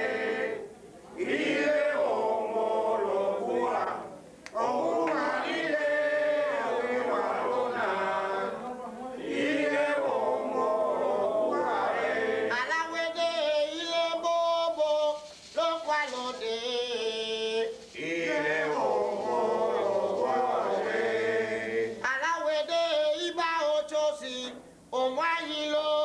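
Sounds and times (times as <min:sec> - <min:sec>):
men chanting together: 0:00.0 - 0:14.3, 0:18.0 - 0:24.6.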